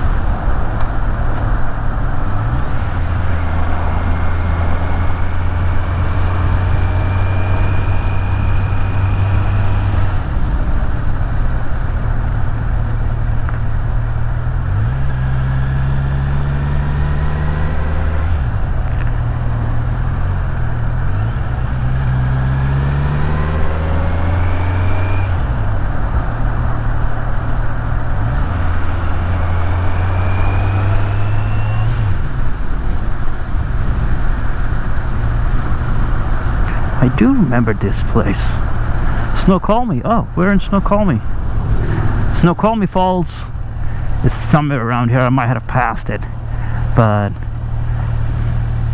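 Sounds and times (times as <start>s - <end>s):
motorcycle engine shifting gears: 0.0s - 37.6s, 40.2s - 44.2s
wind and road noise: 0.0s - 48.9s.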